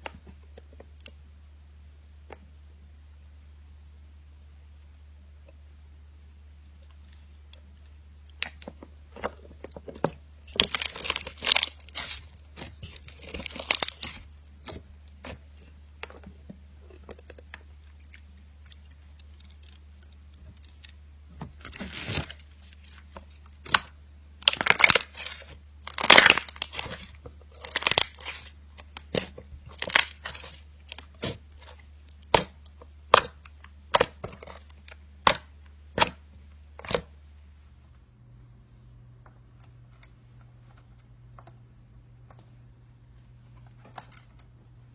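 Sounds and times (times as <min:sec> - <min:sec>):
low electrical hum: 0:00.0 - 0:44.9.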